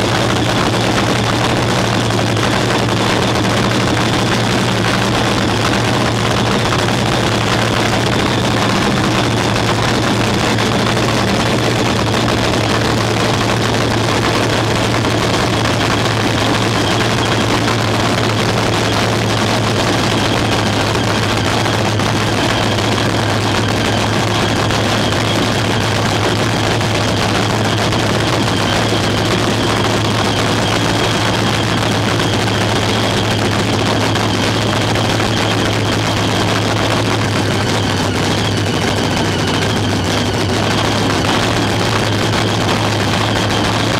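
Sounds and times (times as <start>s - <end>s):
loud engine idling cackle: 0.0s - 43.9s.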